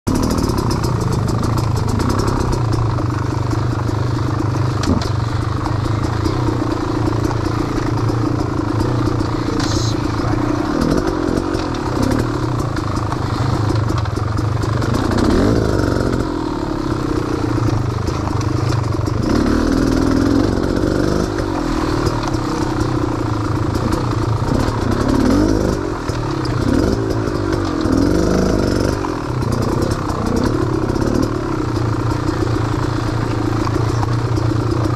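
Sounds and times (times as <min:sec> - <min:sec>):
small engine revving: 0:00.1 - 0:02.8, 0:04.8 - 0:34.2.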